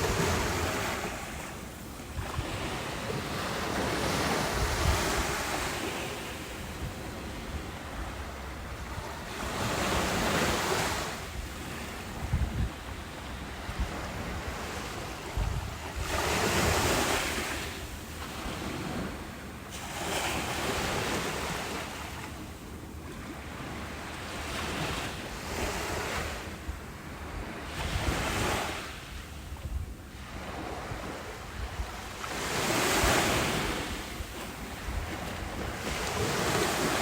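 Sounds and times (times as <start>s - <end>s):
ocean waves breaking on beach: 0.0s - 37.0s.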